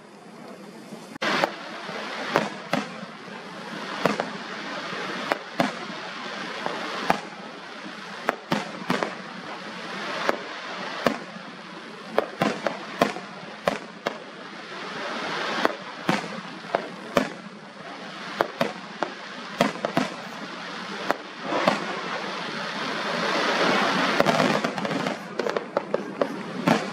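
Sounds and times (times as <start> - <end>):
crackling rushing noise: 0.0 - 26.9
firework shells bursting: 1.2 - 4.4, 5.2 - 14.4, 15.3 - 26.9.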